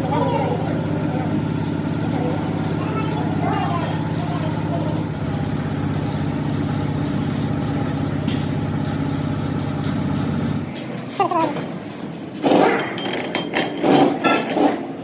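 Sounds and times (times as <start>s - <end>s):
heavy truck engine idling: 0.0s - 14.1s.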